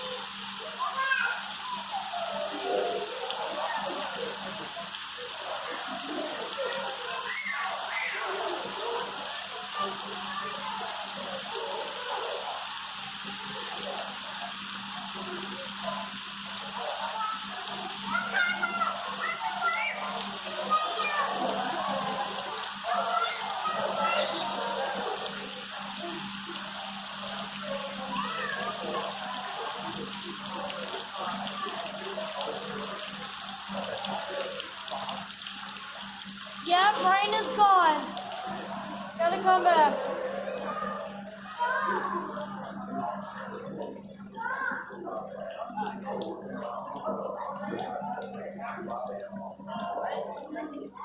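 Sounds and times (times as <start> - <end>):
steady rain falling: 0.0 - 50.9
faint background voices: 0.0 - 51.0.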